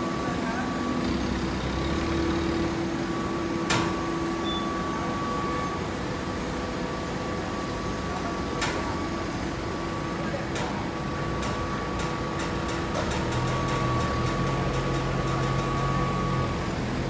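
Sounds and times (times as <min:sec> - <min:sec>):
hydraulic balers humming: 0:00.0 - 0:17.0.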